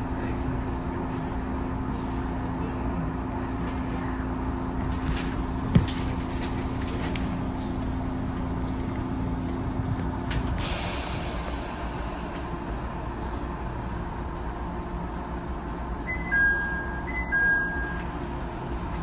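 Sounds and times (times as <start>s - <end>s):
railcar rumbling: 0.0s - 19.0s.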